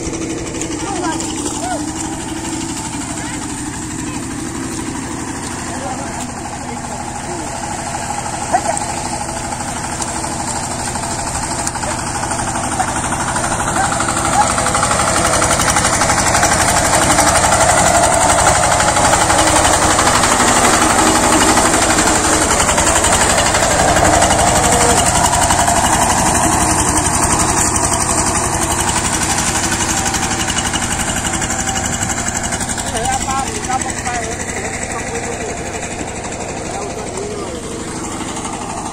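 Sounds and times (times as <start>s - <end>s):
power tiller diesel engine running: 0.0s - 38.9s.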